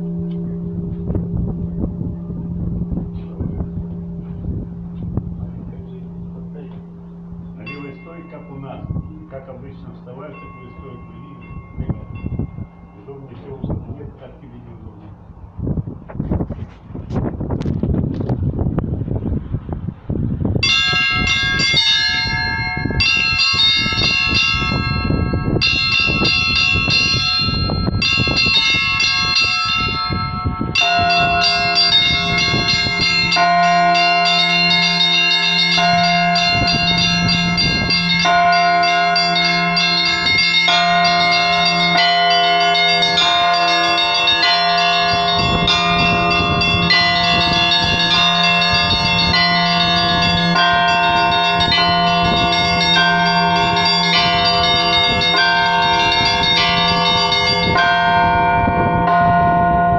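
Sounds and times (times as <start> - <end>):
small high church bells: 0.0 - 15.1, 20.5 - 59.9
large low church bells: 0.0 - 15.3, 20.4 - 59.9.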